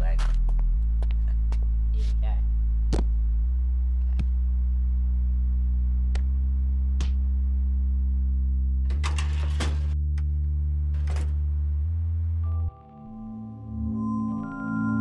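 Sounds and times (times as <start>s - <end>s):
low synth chords: 0.0s - 9.0s, 9.9s - 15.0s.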